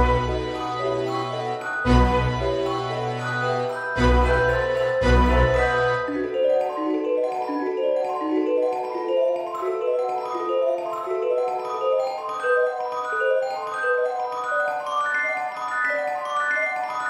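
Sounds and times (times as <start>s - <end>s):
mallet percussion melody: 0.0s - 17.0s.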